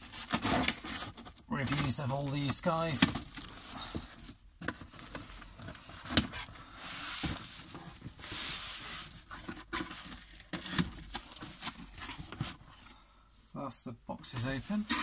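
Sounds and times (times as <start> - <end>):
cardboard flaps scraping and rustling: 0.0 - 12.8, 14.4 - 15.0.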